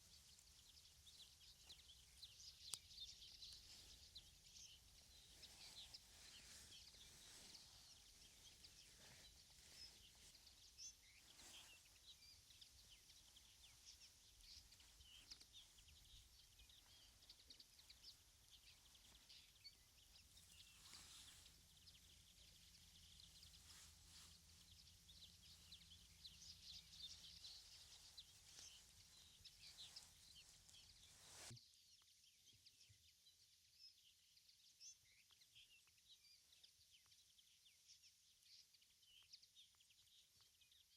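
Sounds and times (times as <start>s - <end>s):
faint birdsong chirps: 0.0s - 40.9s.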